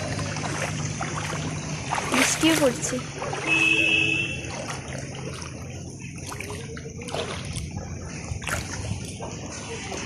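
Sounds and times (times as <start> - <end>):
splashing through water: 0.0 - 10.0.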